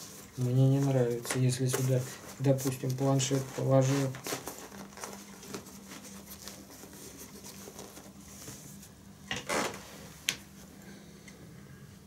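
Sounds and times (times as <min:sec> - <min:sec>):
fabric rustling: 0:00.0 - 0:10.6.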